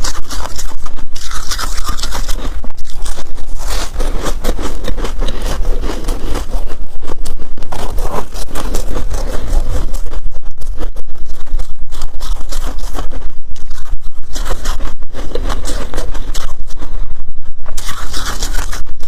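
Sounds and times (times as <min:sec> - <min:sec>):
crunching of freezer frost: 0:00.0 - 0:19.0
low rumble: 0:00.3 - 0:19.0.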